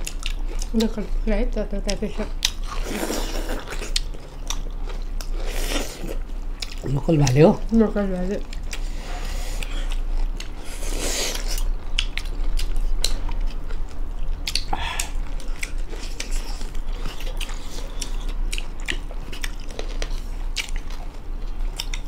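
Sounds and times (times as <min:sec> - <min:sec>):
wet mouth chewing and smacking: 0:00.0 - 0:01.0, 0:01.8 - 0:07.4, 0:08.4 - 0:22.0.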